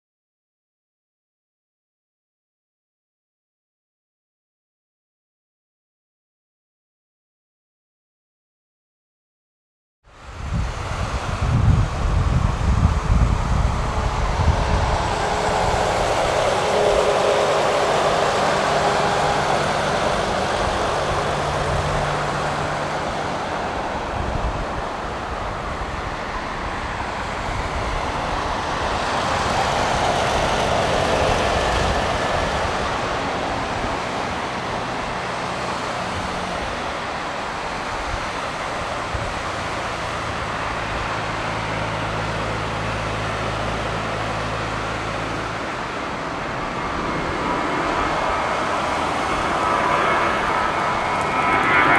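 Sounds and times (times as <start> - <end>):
distant jet engines roaring: 10.1 - 51.9.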